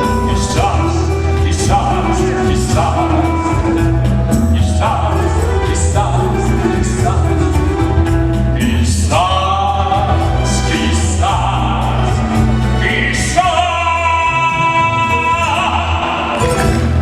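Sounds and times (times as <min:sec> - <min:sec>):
backing music: 0:00.0 - 0:17.0.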